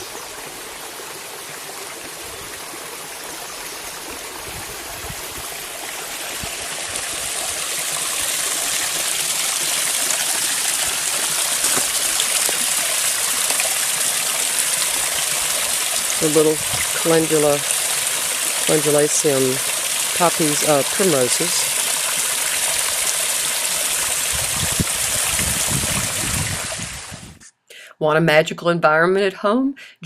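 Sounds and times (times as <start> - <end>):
water pouring down waterfall: 0.0 - 27.4.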